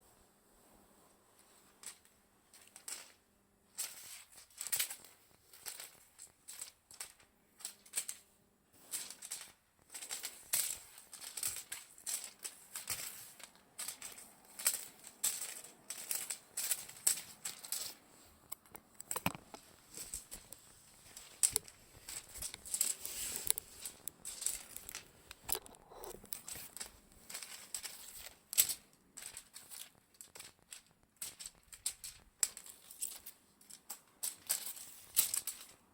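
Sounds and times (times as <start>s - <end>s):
crinkly rustling of cat toy: 0.6s - 35.9s.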